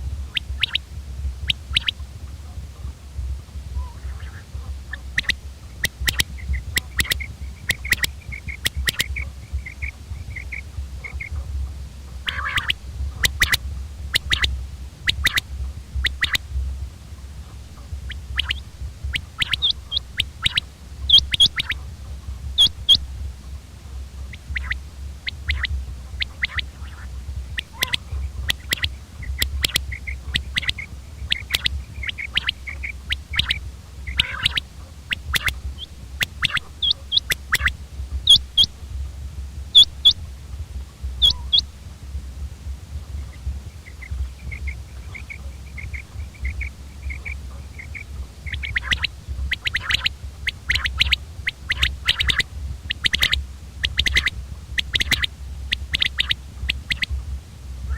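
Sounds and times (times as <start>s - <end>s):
quail calling: 0.0s - 39.0s, 39.7s - 41.9s, 43.0s - 57.2s
steady low hum: 0.0s - 57.9s.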